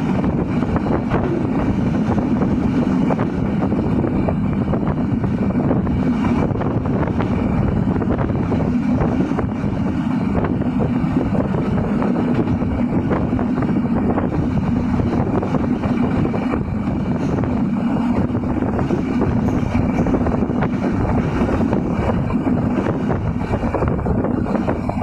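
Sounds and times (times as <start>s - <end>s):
train running on rails: 0.0s - 25.0s
wind buffeting microphone: 0.0s - 25.0s.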